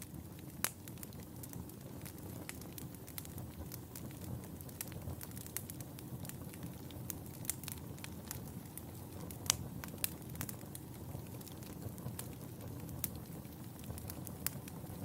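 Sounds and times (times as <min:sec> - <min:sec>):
fire crackles and pops: 0:00.0 - 0:15.0
low rumble of fire: 0:00.0 - 0:15.0.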